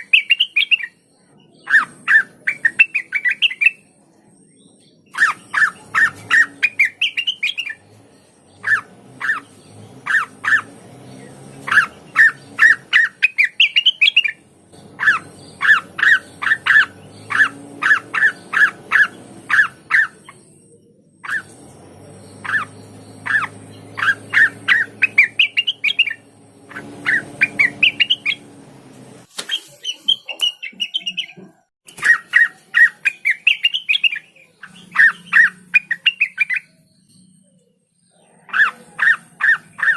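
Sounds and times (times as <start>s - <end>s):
bird singing rapid notes: 0.0s - 39.9s.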